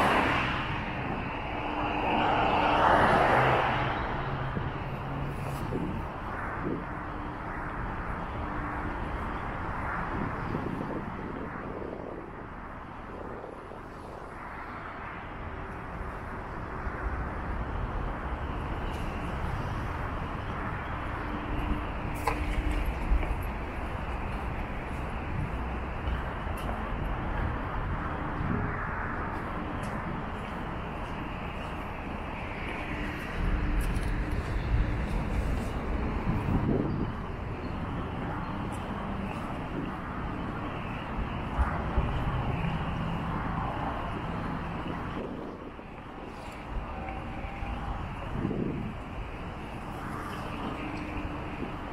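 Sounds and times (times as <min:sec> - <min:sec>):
cars passing on street: 0:00.0 - 0:51.9
city road traffic hum: 0:00.0 - 0:51.9.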